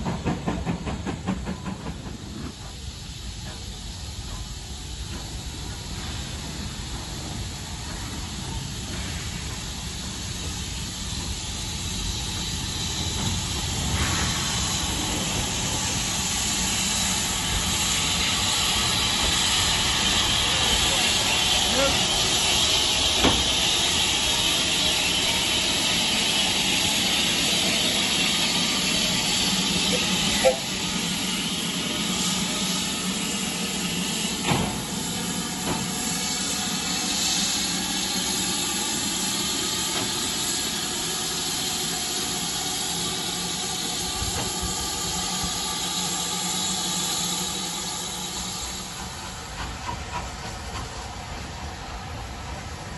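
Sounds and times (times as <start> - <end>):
steam hissing: 0.0 - 52.9.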